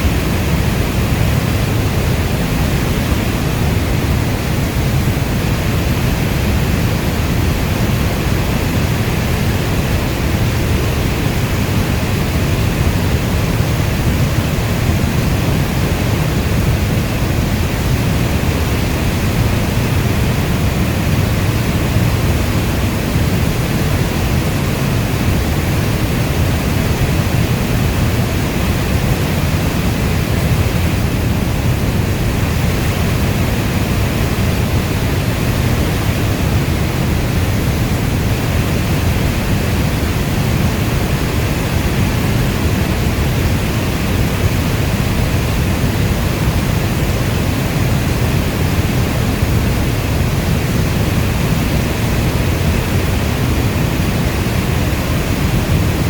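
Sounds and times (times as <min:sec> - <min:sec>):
steady rainstorm: 0:00.0 - 0:56.0.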